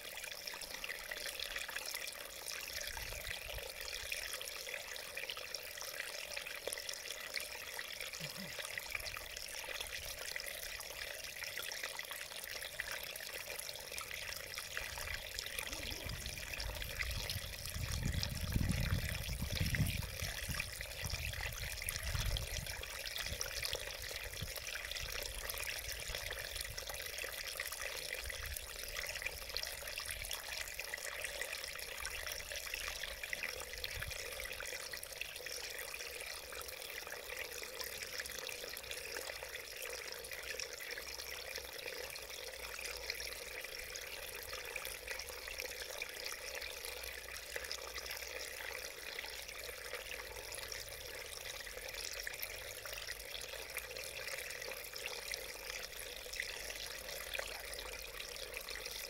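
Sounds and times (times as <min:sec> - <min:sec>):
stream babbling over rocks: 0:00.0 - 0:59.0.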